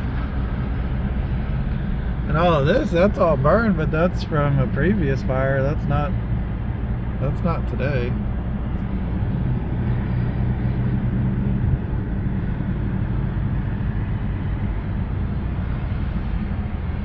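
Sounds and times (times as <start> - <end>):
car engine rumble from inside cabin: 0.0 - 17.0
low hum: 0.0 - 17.0.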